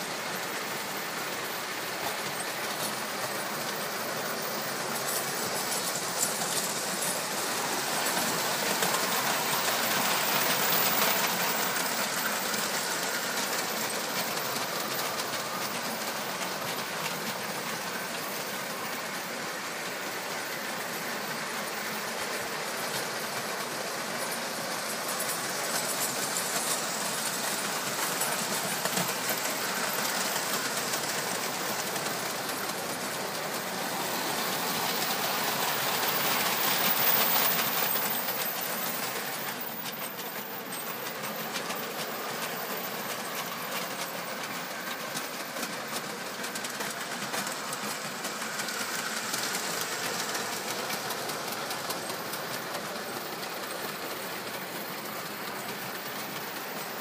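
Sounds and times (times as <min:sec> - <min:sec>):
model train wheels clattering: 0:00.0 - 0:57.0.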